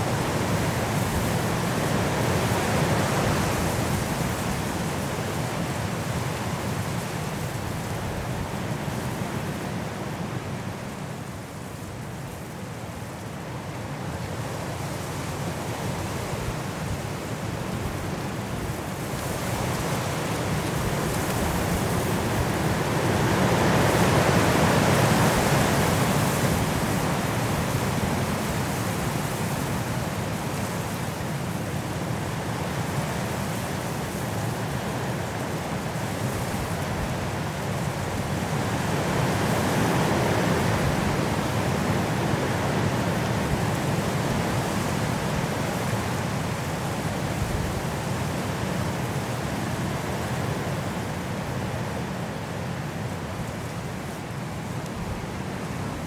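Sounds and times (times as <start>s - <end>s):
strong wind through trees: 0.0s - 56.0s.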